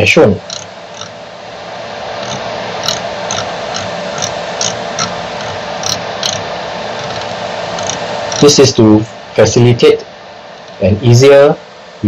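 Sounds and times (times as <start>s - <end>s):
stepper motor humming: 0.0s - 12.0s.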